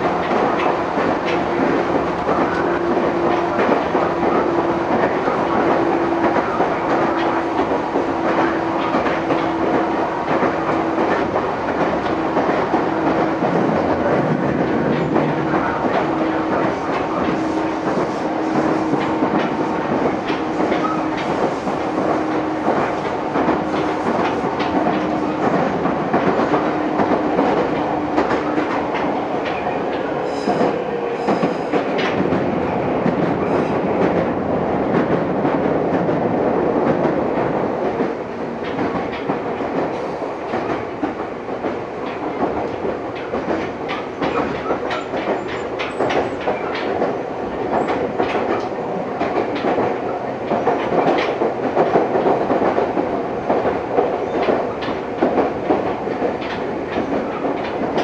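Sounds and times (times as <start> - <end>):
train wheels clacking over joints: 0.0 - 58.0.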